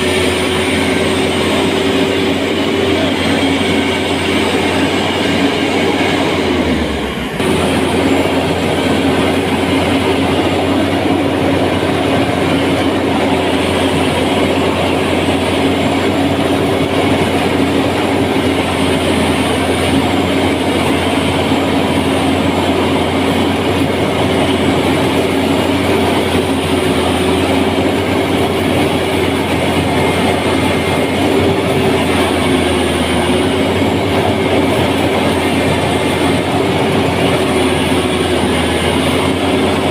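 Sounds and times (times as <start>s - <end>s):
engine running with rattle: 0.0s - 39.9s.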